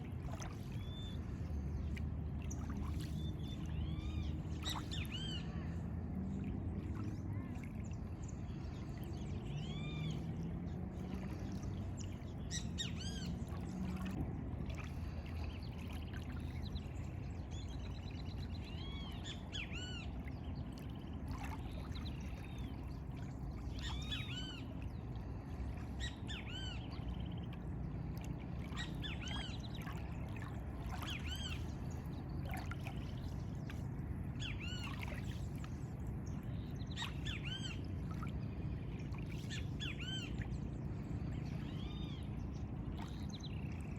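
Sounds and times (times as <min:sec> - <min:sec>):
low rumbling background: 0:00.0 - 0:43.9.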